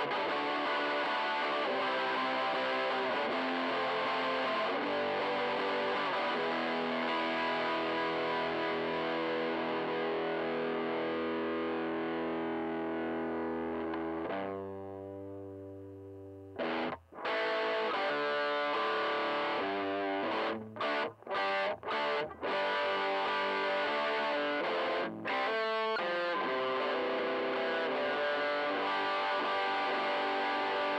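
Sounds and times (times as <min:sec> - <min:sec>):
distorted electric guitar chords: 0:00.0 - 0:30.9.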